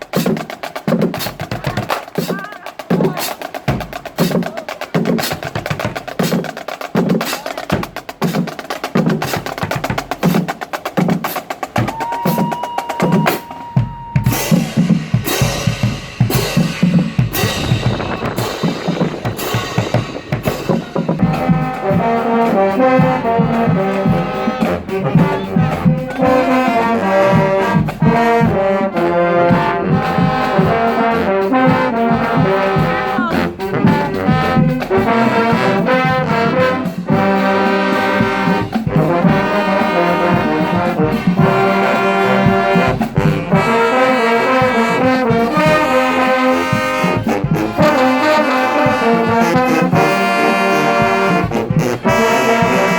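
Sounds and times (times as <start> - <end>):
drums: 0.0 - 52.9
marching band brass playing: 0.0 - 52.9.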